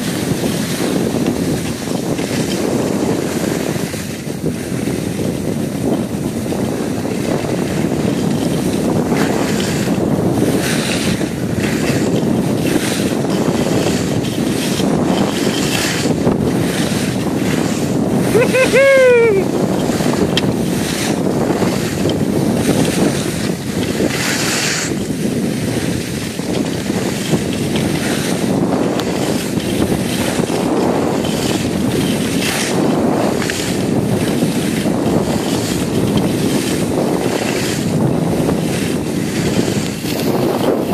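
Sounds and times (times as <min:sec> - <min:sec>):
skis scraping over snow: 0:00.0 - 0:40.9
wind on microphone: 0:00.0 - 0:40.9.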